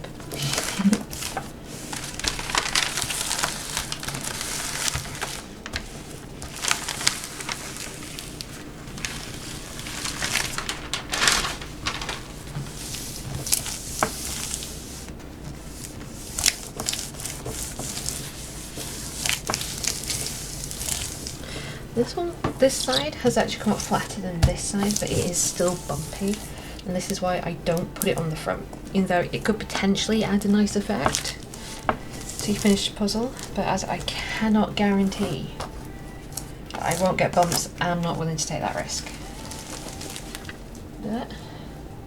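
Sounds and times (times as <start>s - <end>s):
paper and plastic crinkling: 0.0s - 41.9s.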